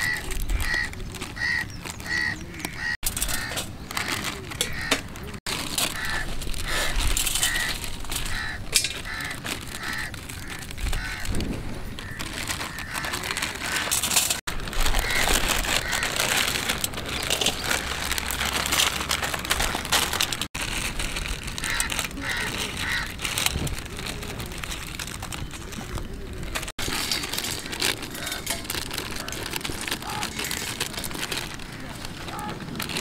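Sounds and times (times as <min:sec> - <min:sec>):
plastic wrappers tearing and crinkling: 0:00.0 - 0:33.0.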